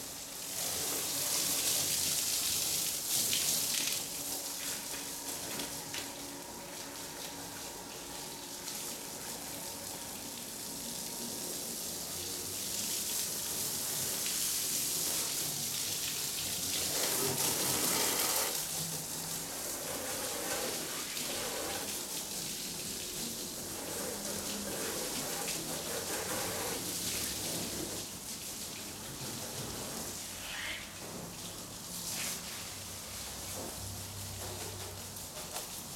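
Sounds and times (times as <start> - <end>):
hose water spraying and splashing: 0.0 - 35.9.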